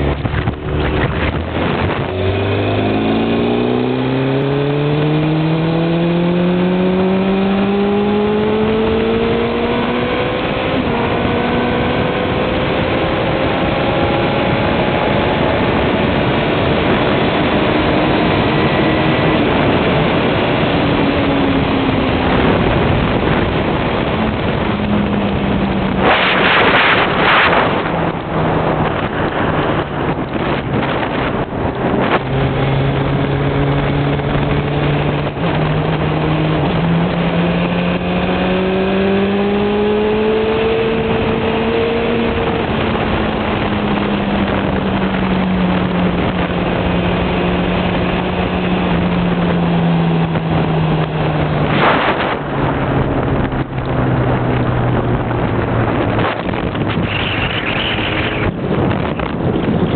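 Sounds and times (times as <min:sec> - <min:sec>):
motorcycle engine pulling away: 0:00.0 - 0:59.9
wind and road noise: 0:00.0 - 0:59.9
wind hitting microphone: 0:00.0 - 0:59.9.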